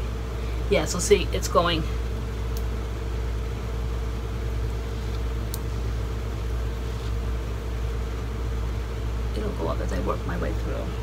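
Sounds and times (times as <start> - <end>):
faint steady whine: 0.0 - 11.0
low background hum: 0.0 - 11.0.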